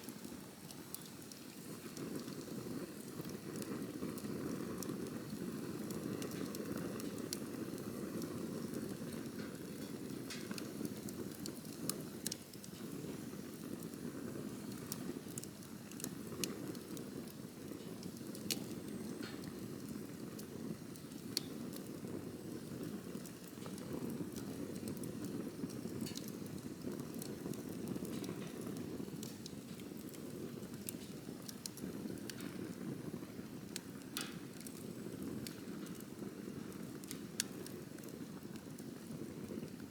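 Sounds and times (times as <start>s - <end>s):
burning wood crackling and popping: 0.0s - 39.9s
campfire flame rush: 0.0s - 39.9s.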